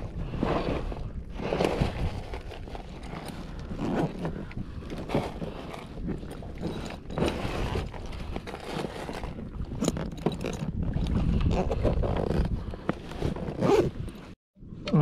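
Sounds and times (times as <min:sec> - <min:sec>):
water rushing against kayak hull: 0:00.0 - 0:14.1
wind buffeting microphone: 0:00.0 - 0:14.9.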